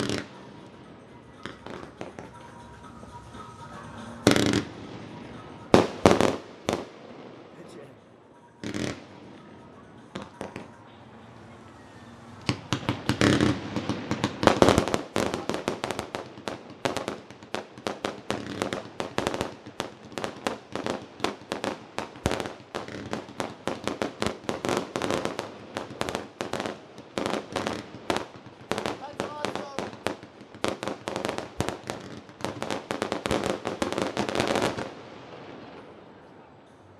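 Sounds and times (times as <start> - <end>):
fireworks bursting: 0.0 - 36.6.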